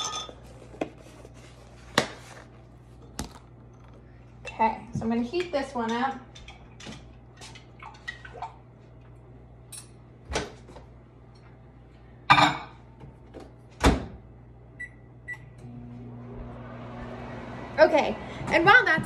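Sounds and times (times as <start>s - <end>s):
microwave humming: 0.0s - 7.8s, 8.4s - 19.0s.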